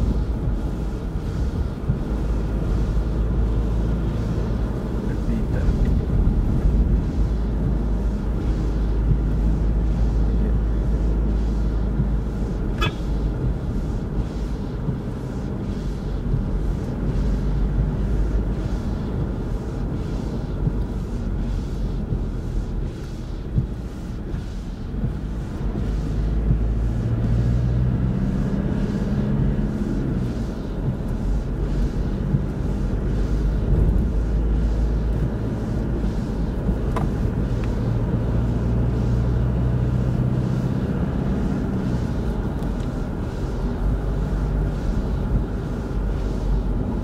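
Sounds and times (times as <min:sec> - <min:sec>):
car driving heard from cabin: 0:00.0 - 0:47.0.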